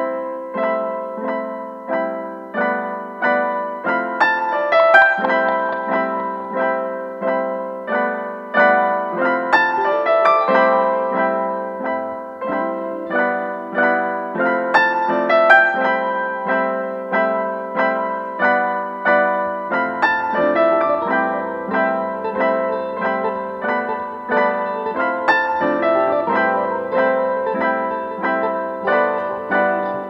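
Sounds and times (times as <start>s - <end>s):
piano single notes: 0.0s - 30.0s.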